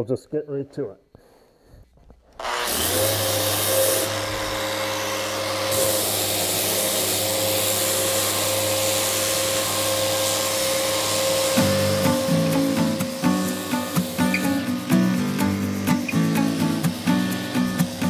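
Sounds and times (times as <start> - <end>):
orbital sander humming and whining: 2.4 - 18.0.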